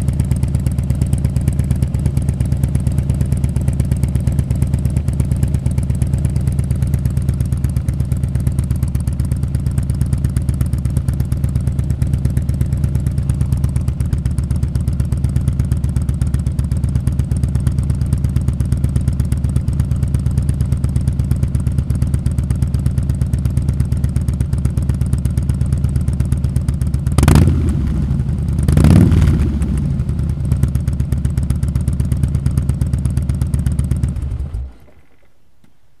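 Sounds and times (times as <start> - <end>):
motorcycle engine idling: 0.0 - 35.5.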